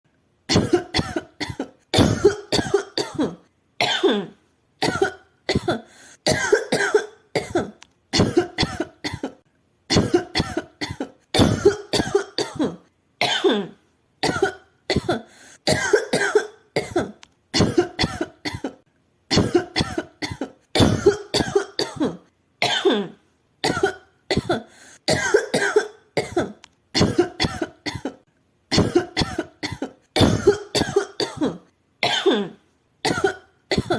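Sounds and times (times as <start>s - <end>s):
woman coughing: 0.5s - 33.9s.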